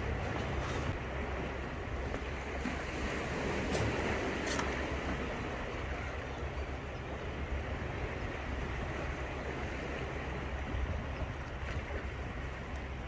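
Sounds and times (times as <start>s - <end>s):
sea waves: 0.0s - 13.0s
wind rumble on microphone: 0.0s - 13.0s.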